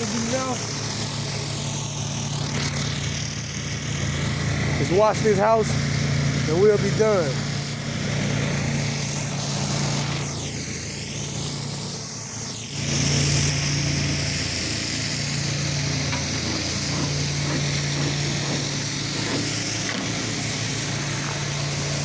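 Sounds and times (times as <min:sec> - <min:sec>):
pressure washer engine running: 0:00.0 - 0:22.0.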